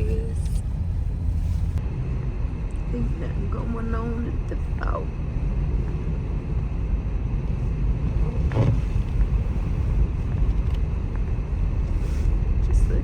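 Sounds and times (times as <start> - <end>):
car driving on snowy road: 0.0 - 13.0.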